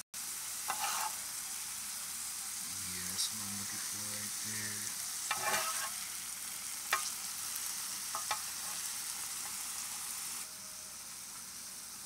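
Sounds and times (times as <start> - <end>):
steak sizzling in pan: 0.0 - 12.0.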